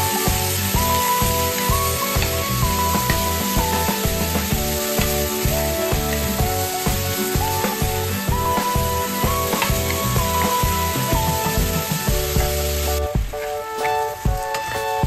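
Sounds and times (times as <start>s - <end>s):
background music with beat: 0.0s - 15.0s
liver and onions sizzling in pan: 0.0s - 15.0s.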